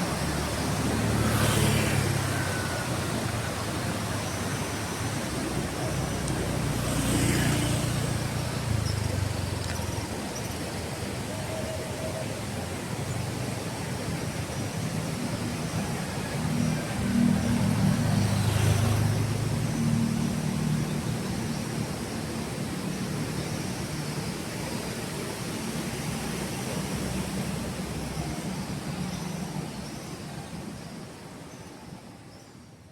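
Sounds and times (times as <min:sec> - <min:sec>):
low engine rumble of traffic: 0:00.0 - 0:32.9
vehicles passing close by: 0:00.0 - 0:32.9.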